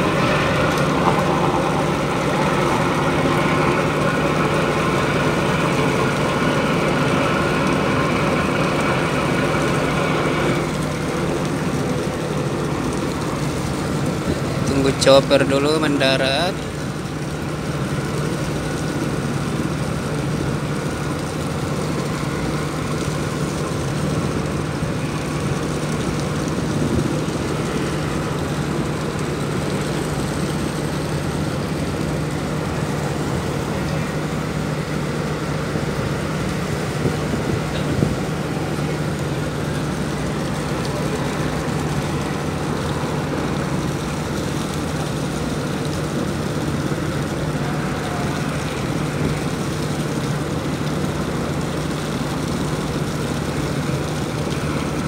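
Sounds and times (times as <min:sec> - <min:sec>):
sea noise: 0:00.0 - 0:55.0
ship engine droning: 0:00.0 - 0:55.0
wind: 0:00.0 - 0:55.0.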